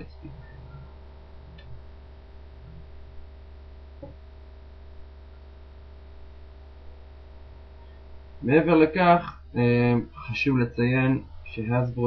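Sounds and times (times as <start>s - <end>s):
electrical mains hum: 0.0s - 12.0s
faint steady tones: 0.0s - 12.0s.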